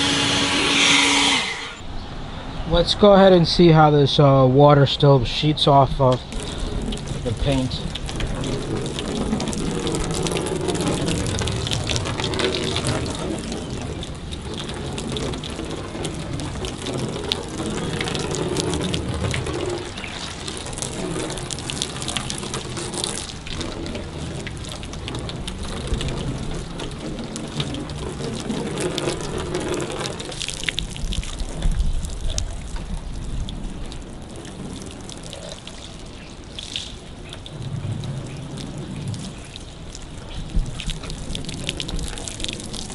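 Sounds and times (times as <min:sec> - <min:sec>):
hose water splashing on car: 0:00.0 - 0:01.8, 0:05.0 - 0:42.9.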